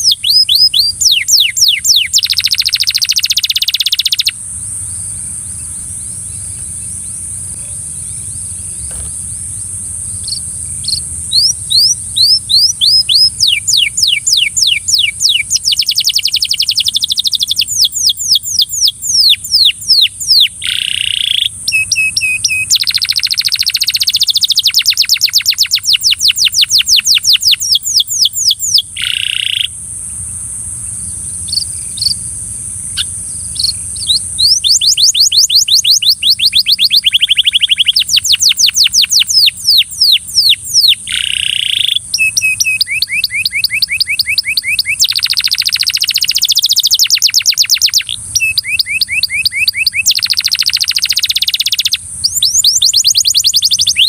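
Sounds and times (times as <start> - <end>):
canary singing trills: 0.0 - 29.8, 30.8 - 54.0.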